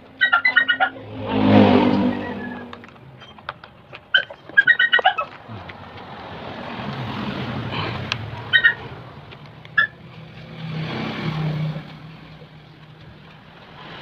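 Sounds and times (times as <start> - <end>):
motor vehicles passing: 0.0 - 14.0.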